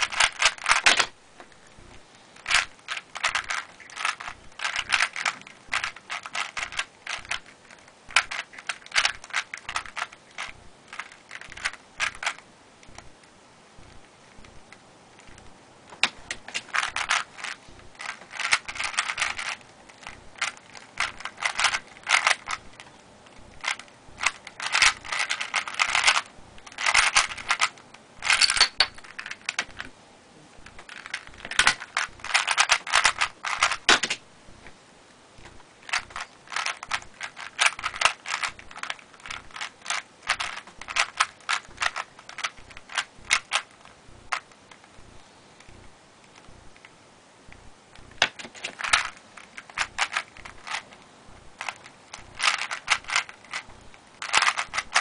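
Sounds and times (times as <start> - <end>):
puzzle cube clicking: 0.0 - 29.9, 30.6 - 34.8, 35.4 - 45.0, 47.5 - 55.0.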